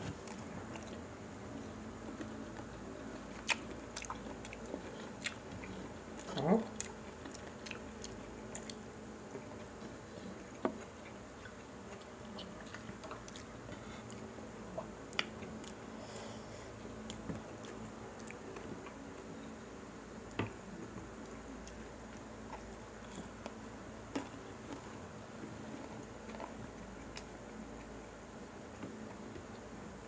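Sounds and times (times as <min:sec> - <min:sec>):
faint steady hum: 0:00.0 - 0:30.0
soft chewing: 0:00.0 - 0:30.0.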